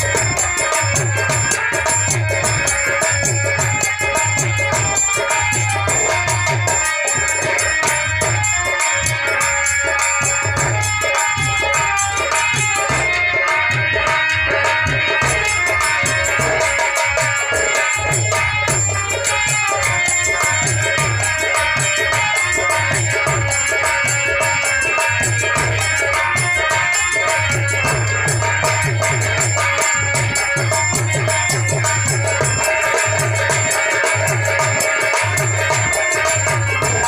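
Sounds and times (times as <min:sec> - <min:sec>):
hand drum rhythm: 0:00.0 - 0:37.0
harmonium sustained reedy notes: 0:00.0 - 0:37.0.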